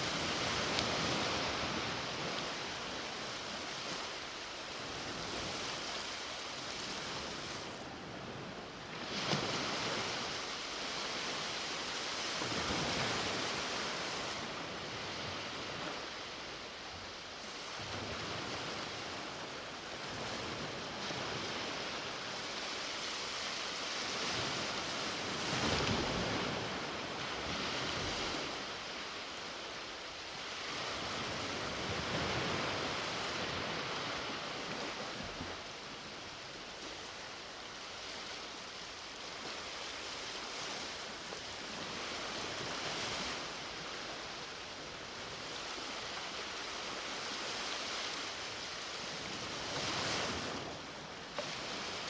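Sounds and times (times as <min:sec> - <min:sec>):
sea waves breaking on beach: 0:00.0 - 0:52.0.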